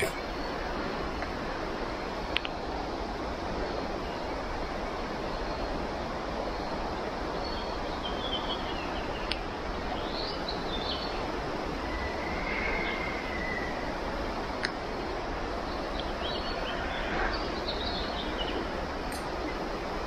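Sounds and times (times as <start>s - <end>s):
birds chirping: 0.0s - 2.6s, 3.6s - 19.8s
stream rushing: 0.0s - 20.0s.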